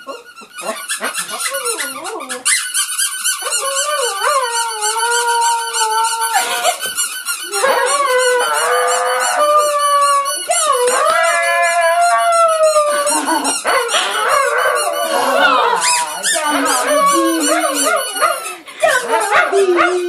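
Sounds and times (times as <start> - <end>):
squeaky toy squeaking: 0.0 - 20.0
dog howling and whining: 3.3 - 20.0.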